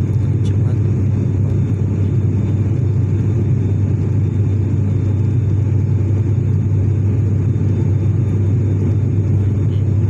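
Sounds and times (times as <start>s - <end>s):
airplane engines and propellers droning: 0.0s - 10.0s
deep even hum: 0.0s - 10.0s.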